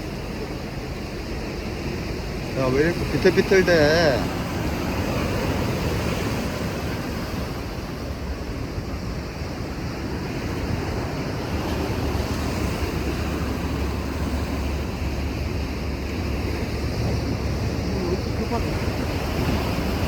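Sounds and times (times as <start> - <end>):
sea surf washing in: 0.0 - 20.0
wind buffeting microphone: 0.0 - 20.0.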